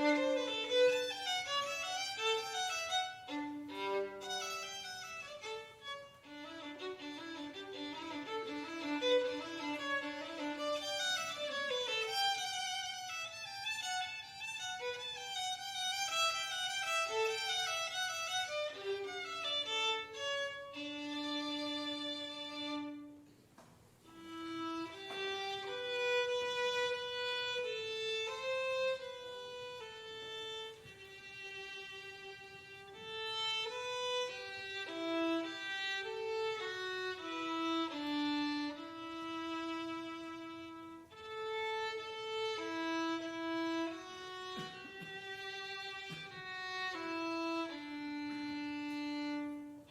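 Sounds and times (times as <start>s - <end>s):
violin melody: 0.0s - 23.3s, 24.0s - 49.9s.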